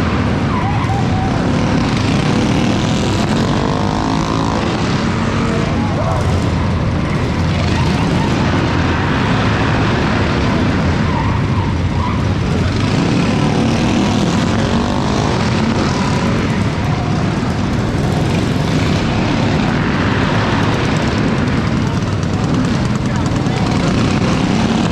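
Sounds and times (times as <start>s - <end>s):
minibike engines droning: 0.0s - 24.9s.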